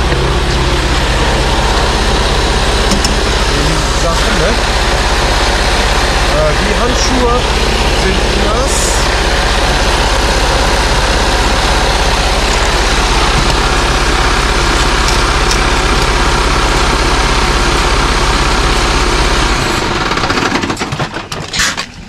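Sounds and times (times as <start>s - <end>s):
truck diesel engine idling: 0.0s - 20.8s.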